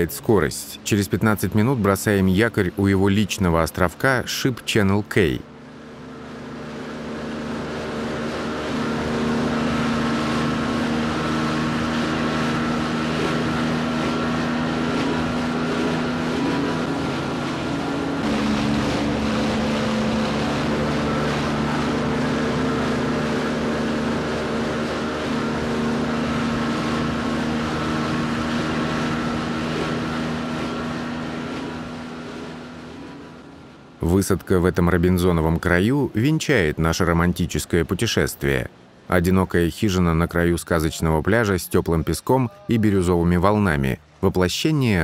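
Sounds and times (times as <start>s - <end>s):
speedboat engine droning: 0.0s - 45.0s
water and wind rushing along hull: 0.0s - 45.0s.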